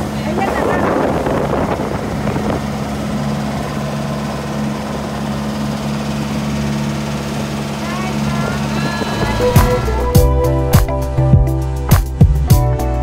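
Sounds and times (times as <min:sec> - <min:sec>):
boat engine droning: 0:00.0 - 0:13.0
wind and water rushing: 0:00.0 - 0:13.0.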